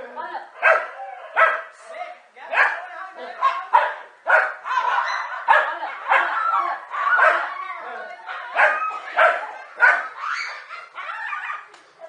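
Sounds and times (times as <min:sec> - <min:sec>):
dogs barking: 0:00.6 - 0:01.8, 0:02.5 - 0:11.7.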